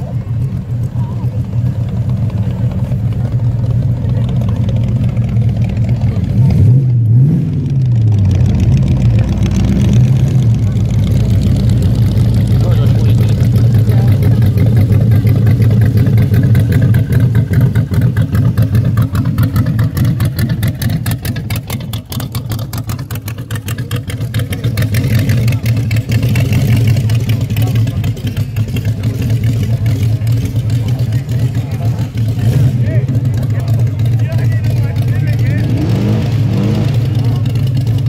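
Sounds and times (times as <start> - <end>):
hot rod engine rumbling: 0.0 - 38.0.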